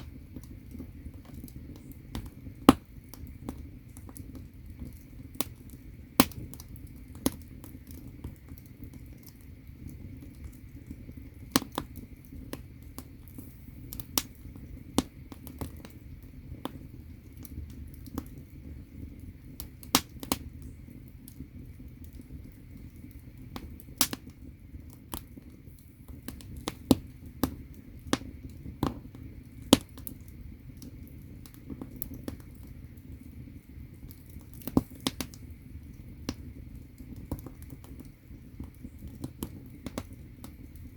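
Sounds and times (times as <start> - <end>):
firewood crackling and popping: 0.0 - 40.9
low rumble of fire: 0.0 - 40.9.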